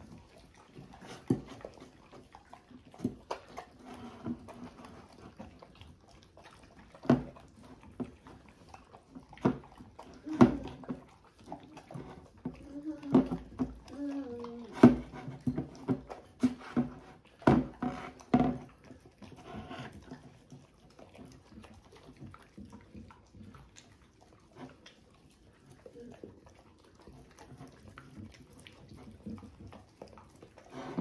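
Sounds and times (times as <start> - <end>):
dogs lapping and chewing: 0.0 - 31.0.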